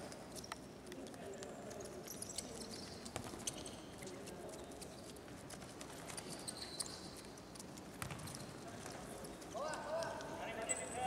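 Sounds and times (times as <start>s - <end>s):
shoes squeaking on floor: 0.0s - 11.0s.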